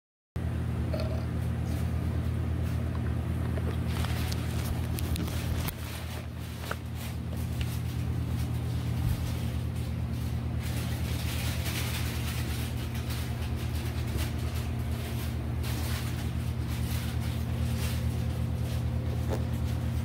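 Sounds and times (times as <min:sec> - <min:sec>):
low mechanical drone: 0:00.4 - 0:20.0.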